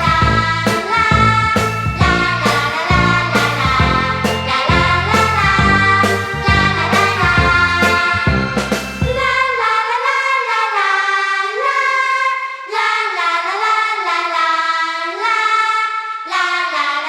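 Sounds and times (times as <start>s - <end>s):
high voices singing unaccompanied: 0.0s - 17.0s.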